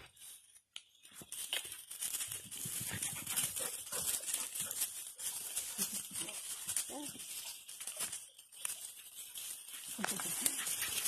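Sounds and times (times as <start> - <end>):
dogs running through dry leaves: 0.1 - 11.0.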